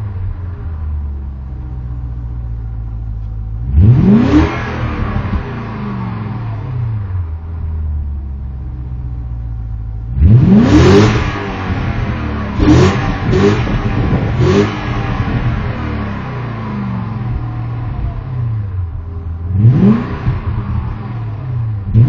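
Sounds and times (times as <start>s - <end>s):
car engine revving and idling: 0.0s - 22.0s.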